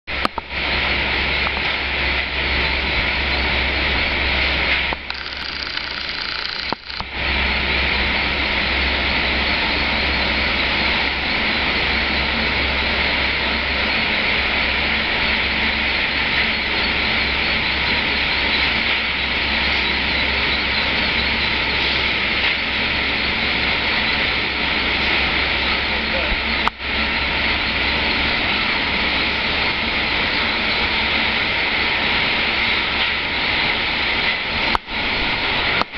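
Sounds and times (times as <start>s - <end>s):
machinery humming: 0.1s - 35.9s.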